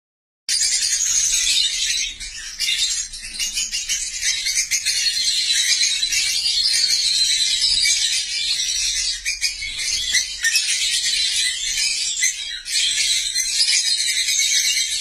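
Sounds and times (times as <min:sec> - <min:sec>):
lovebirds chattering and shrieking: 0:00.5 - 0:15.0.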